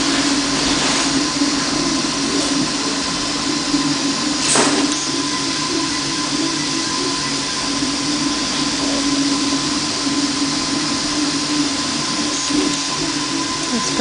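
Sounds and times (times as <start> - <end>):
three d printer humming: 0.0 - 14.0.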